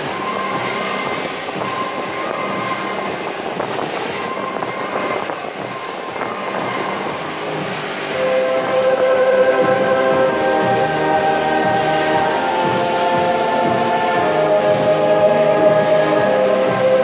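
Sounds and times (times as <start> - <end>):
drone propellers whining: 0.0 - 17.0
music with long held notes: 0.0 - 17.0.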